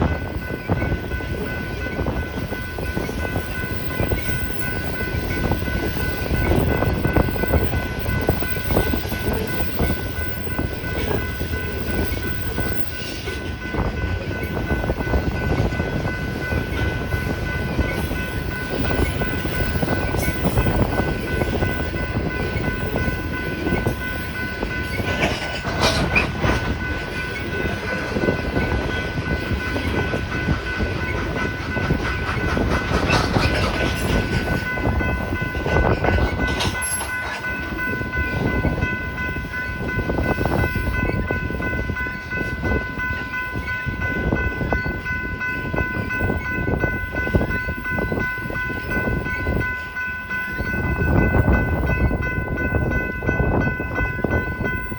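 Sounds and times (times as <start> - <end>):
train wheels clattering on rails: 0.0 - 54.9
wind on microphone: 0.0 - 54.9.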